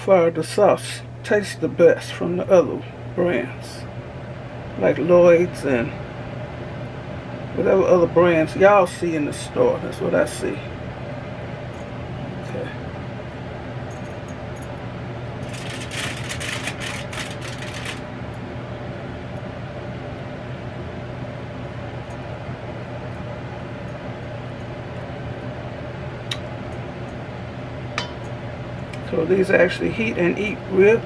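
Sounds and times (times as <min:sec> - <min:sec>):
fan or appliance hum: 0:00.0 - 0:31.0.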